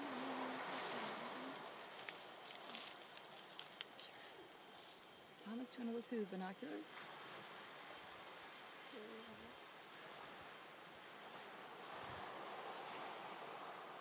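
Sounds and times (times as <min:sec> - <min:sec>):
insects trilling: 0:00.0 - 0:14.0
soft background hiss: 0:00.0 - 0:14.0.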